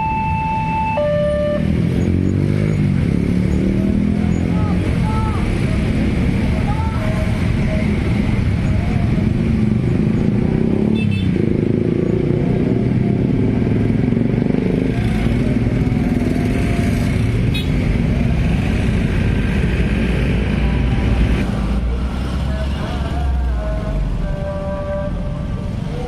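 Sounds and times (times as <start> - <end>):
scooter and car engines: 0.0 - 26.0
tyres on road: 0.0 - 26.0.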